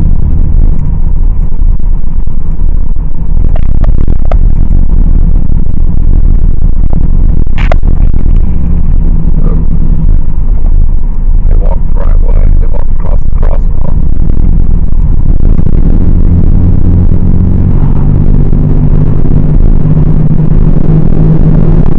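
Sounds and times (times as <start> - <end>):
car engine: 0.0 - 21.9
road rumble: 0.0 - 21.9.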